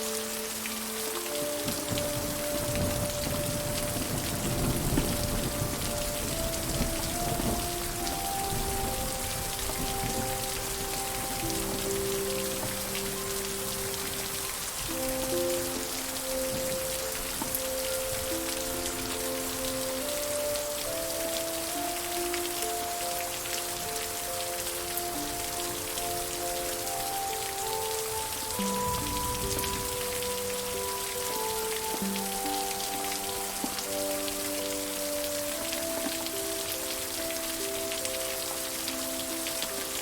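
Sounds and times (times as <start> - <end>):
soft music with held notes: 0.0 - 40.0
steady rain falling: 0.0 - 40.0.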